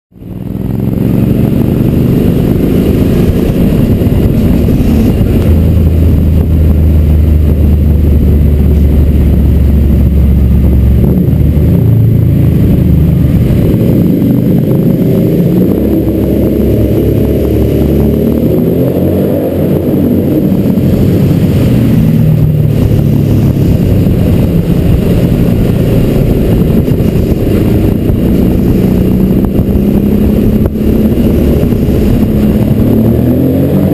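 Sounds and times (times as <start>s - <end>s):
motorcycle engine revving in tunnel: 0.1s - 33.9s.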